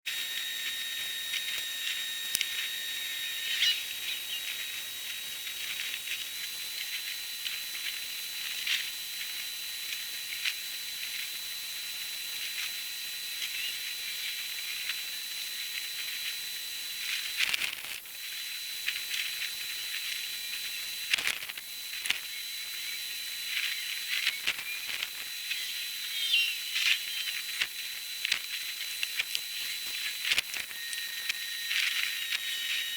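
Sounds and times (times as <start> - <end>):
thin steady whistle: 0.1 - 10.0, 10.6 - 17.4, 21.9 - 32.9.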